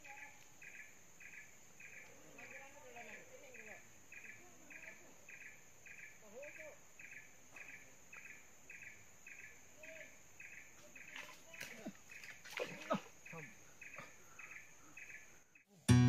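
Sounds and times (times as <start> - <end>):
insect chirping: 0.0 - 15.8.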